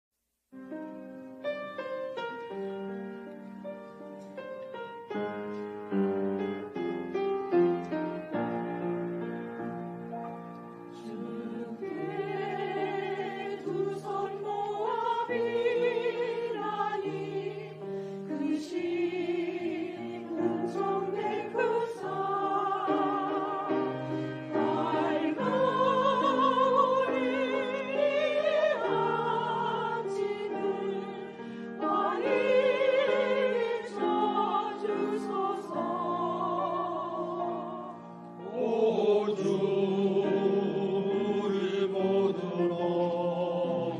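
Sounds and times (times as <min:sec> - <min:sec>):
piano accompaniment: 0:00.5 - 0:43.9
choir singing a hymn: 0:06.1 - 0:10.0, 0:10.8 - 0:43.9.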